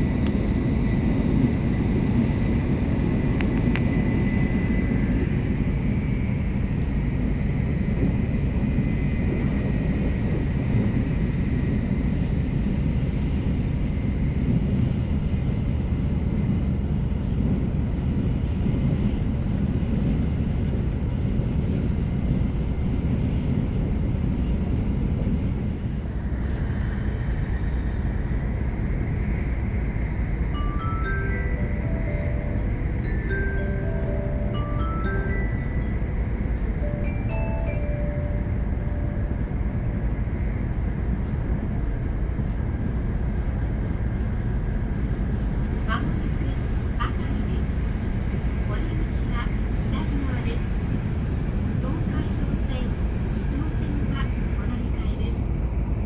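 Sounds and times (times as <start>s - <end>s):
train running low rumble: 0.0s - 56.0s.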